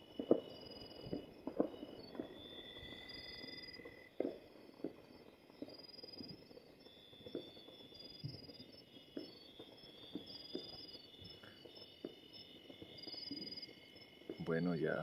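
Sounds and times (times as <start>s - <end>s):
distant gunshots and firecrackers: 0.0s - 13.6s
crickets chirping: 0.0s - 15.0s.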